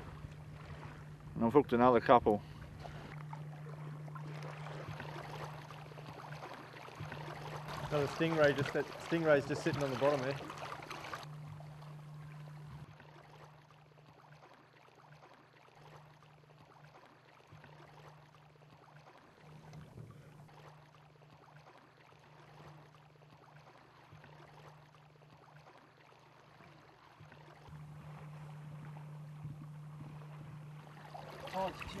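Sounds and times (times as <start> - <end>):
shallow water ambience: 0.0 - 32.0
steady low hum: 0.0 - 32.0.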